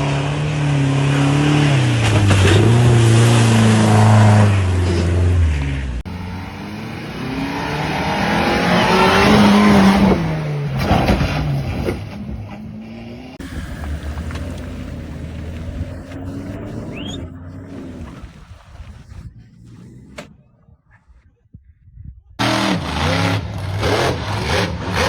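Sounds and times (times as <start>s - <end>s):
off-road engine revving: 0.0s - 20.6s, 22.4s - 25.0s.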